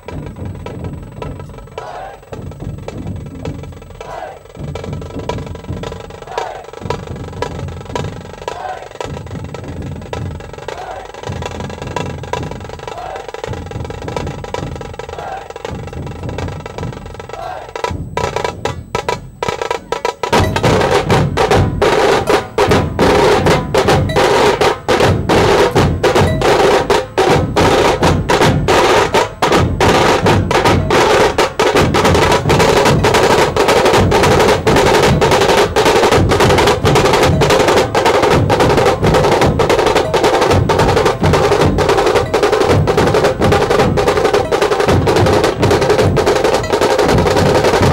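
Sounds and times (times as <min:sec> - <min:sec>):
large barrel drums beating: 0:00.0 - 0:47.9
small drums rolling: 0:00.0 - 0:47.9.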